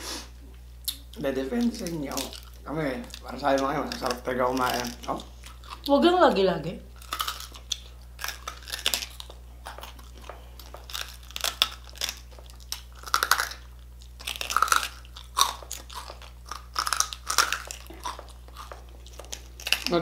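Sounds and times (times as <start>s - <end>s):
crunching and chewing: 0.8s - 5.9s, 6.9s - 20.0s.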